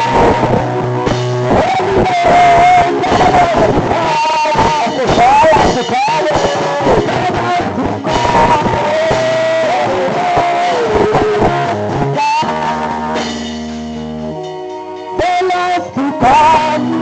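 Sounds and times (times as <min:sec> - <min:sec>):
electric guitar melody: 0:00.0 - 0:17.0
praise band music: 0:00.0 - 0:17.0.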